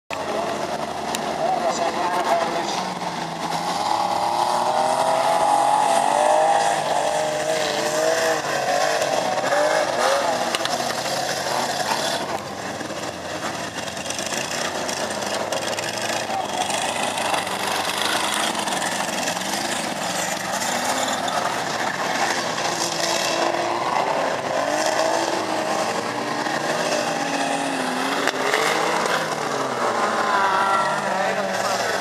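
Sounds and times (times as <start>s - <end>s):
racing car engines revving: 0.1s - 32.0s.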